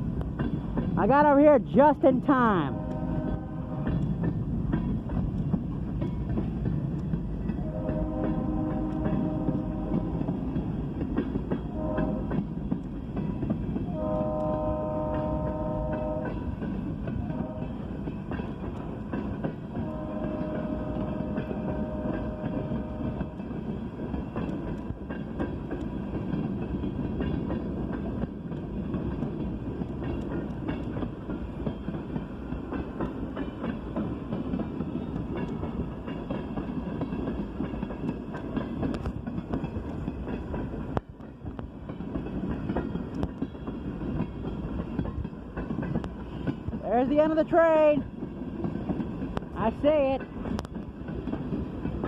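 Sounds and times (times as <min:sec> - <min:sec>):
train wheels rumbling on rails: 0:00.0 - 0:52.0
wheels clicking over rail joints: 0:00.0 - 0:52.0.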